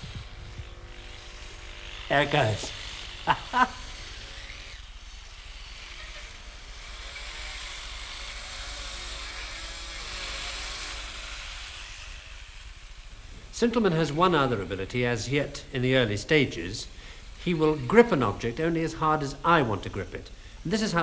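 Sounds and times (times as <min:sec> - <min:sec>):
robot arm motors hissing and humming: 0:00.0 - 0:14.7, 0:16.0 - 0:21.0.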